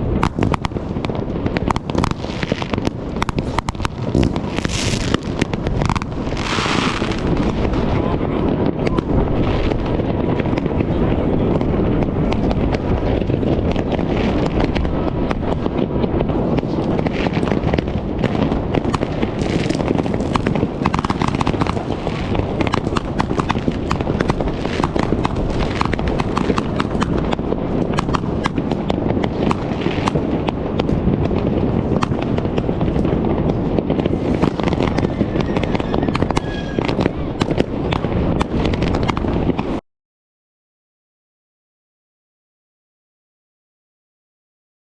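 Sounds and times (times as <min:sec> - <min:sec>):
fireworks bangs and crackles: 0:00.0 - 0:39.8
rumble of explosions: 0:00.0 - 0:39.8.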